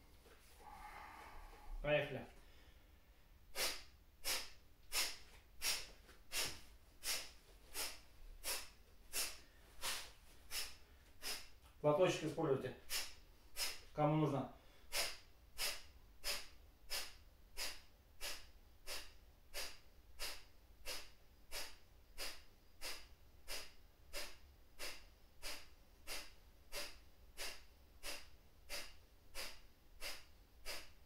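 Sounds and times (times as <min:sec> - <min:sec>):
forceful nasal exhalations: 0:00.6 - 0:02.8, 0:03.5 - 0:14.0, 0:14.6 - 0:31.0.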